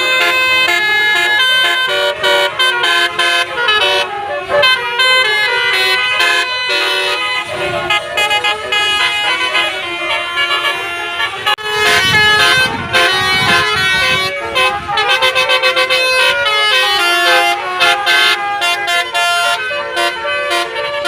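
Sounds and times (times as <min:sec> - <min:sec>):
multi-tone musical horn melody: 0:00.0 - 0:21.0.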